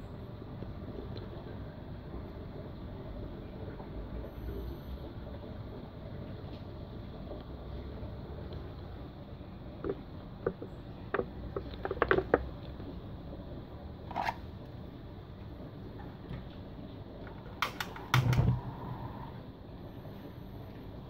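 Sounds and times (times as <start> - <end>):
steady low background noise: 0.0 - 21.0.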